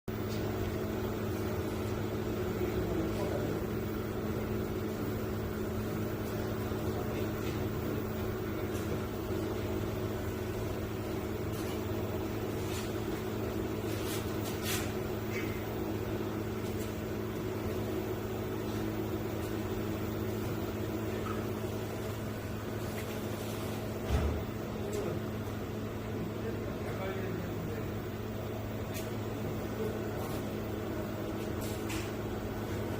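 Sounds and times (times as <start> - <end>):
electrical machine hum: 0.1 - 32.9.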